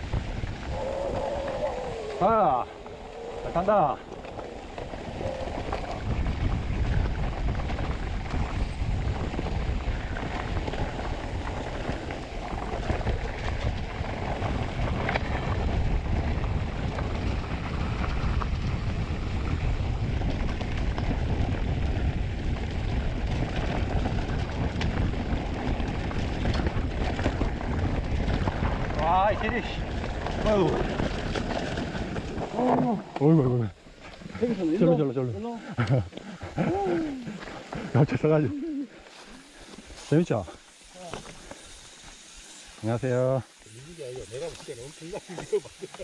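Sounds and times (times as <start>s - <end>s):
wind buffeting microphone: 0.0s - 40.8s
bike tyres on dirt trail: 0.0s - 46.0s.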